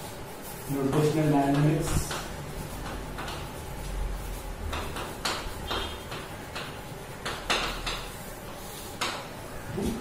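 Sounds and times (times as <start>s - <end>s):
chalk scratching on chalkboard: 0.0s - 9.4s.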